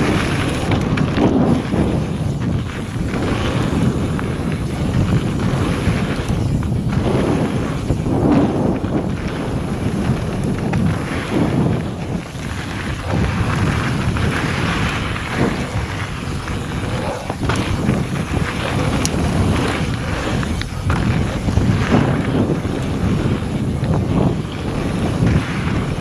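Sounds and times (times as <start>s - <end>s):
bike knocks and rattles: 0.0s - 26.0s
bike tyres rolling on gravel: 0.0s - 26.0s
wind buffeting microphone: 0.0s - 26.0s.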